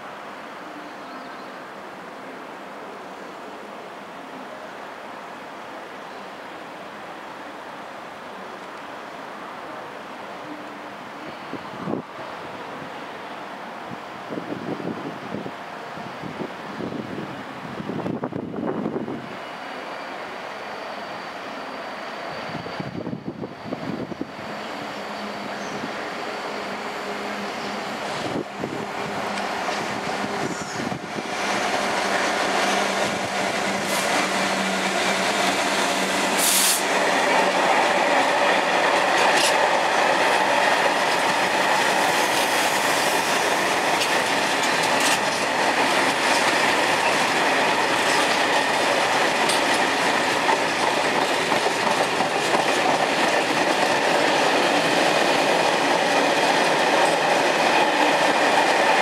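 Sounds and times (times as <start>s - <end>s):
freight train rumbling on rails: 0.0s - 59.0s.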